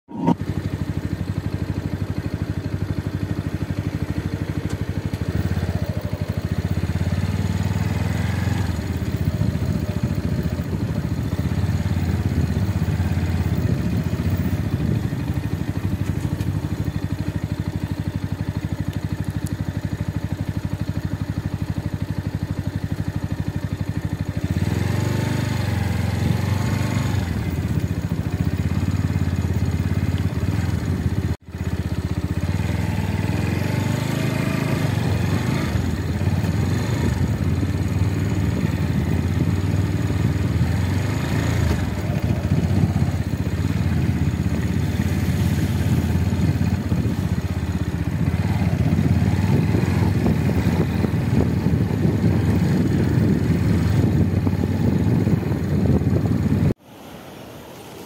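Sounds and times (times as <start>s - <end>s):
small motorcycle engine running: 0.0s - 56.8s.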